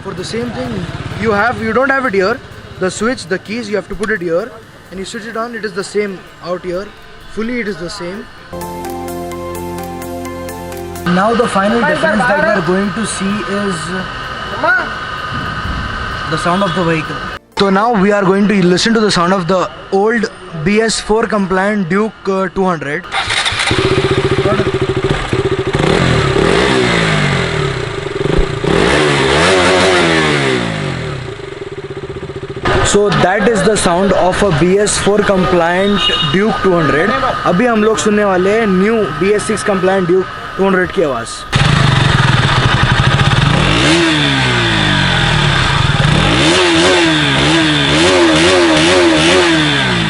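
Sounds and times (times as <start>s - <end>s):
motorcycle engine idling and revving: 0.0s - 8.6s, 11.0s - 17.4s, 23.0s - 50.0s.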